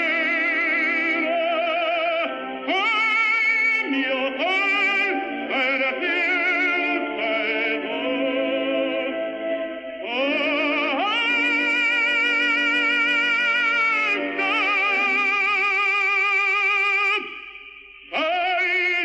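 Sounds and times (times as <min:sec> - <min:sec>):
operatic singing with vibrato: 0:00.0 - 0:19.0.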